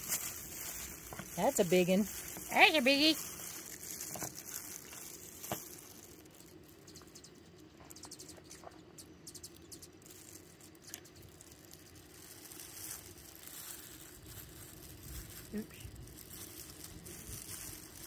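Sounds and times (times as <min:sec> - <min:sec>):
soft ticks and pats: 0:00.0 - 0:18.0.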